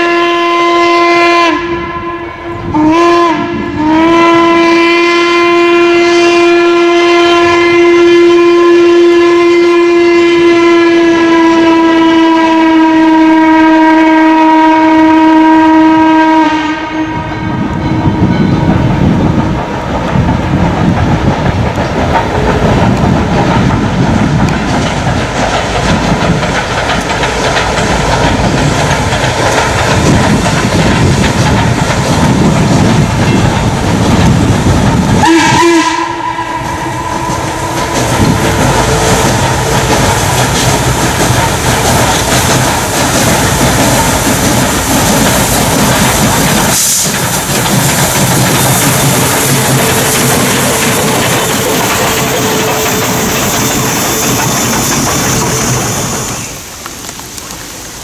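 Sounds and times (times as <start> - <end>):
steam locomotive heavy exhaust: 0.0 - 58.0.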